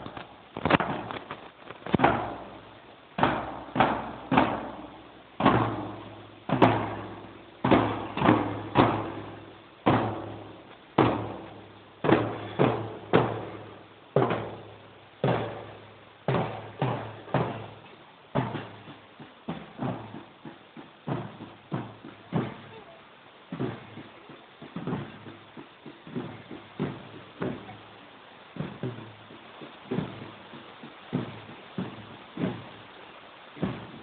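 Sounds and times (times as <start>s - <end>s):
marching bass drums: 0.0s - 34.0s.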